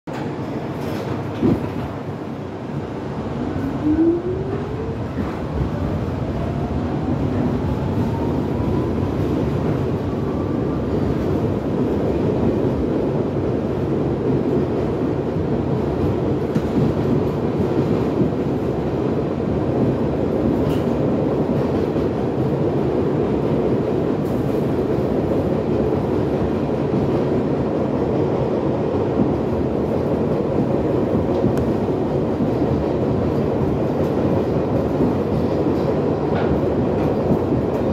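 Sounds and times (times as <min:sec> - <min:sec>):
subway train rumbling on rails: 0:00.0 - 0:37.9.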